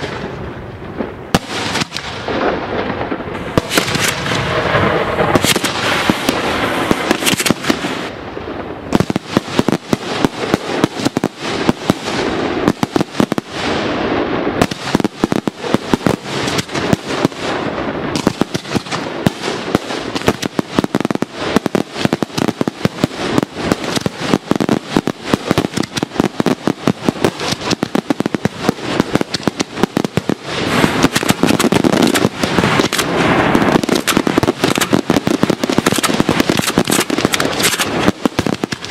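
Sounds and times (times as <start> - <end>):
firecracker bangs: 0.0 - 38.9.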